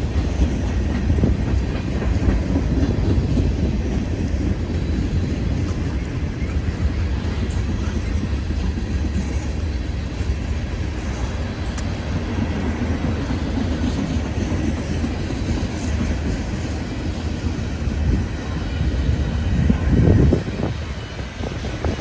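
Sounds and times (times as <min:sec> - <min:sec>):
wheels clickety-clack: 0:00.0 - 0:19.3
freight train rumbling past: 0:00.0 - 0:22.0.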